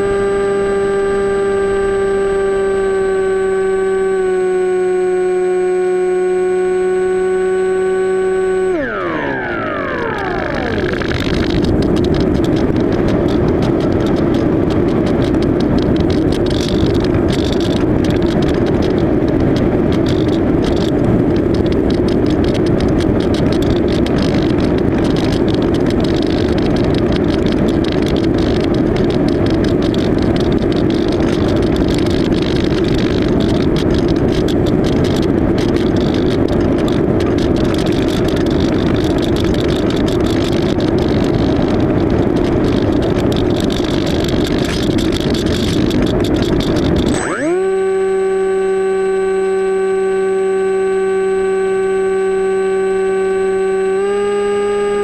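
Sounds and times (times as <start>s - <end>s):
electric motor and propeller drone: 0.0s - 55.0s.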